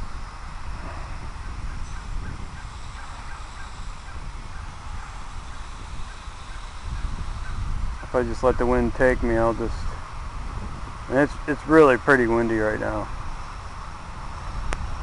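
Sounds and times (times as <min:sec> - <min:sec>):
high-pitched whirring hiss: 0:00.0 - 0:15.0
wind buffeting microphone: 0:00.0 - 0:15.0.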